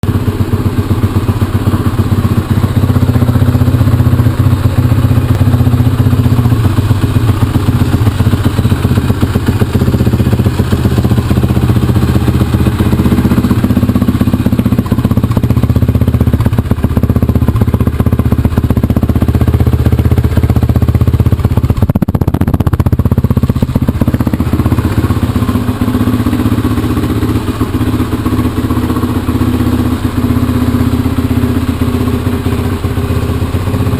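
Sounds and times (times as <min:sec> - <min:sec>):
quad engine running loudly: 0:00.0 - 0:33.9.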